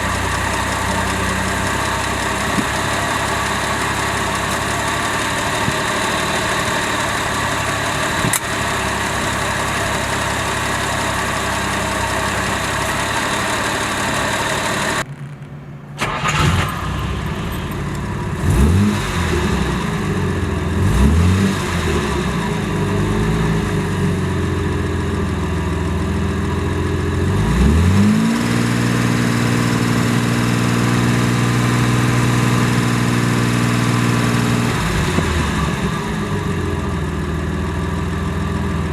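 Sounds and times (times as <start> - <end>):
car engine idling: 0.0 - 38.9
car engine revving: 0.0 - 38.9.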